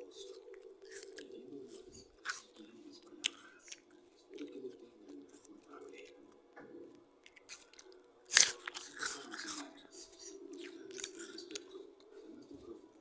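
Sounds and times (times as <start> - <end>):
apple bite crunch: 0.0 - 6.3, 7.2 - 11.8
crunchy chewing: 0.0 - 13.0.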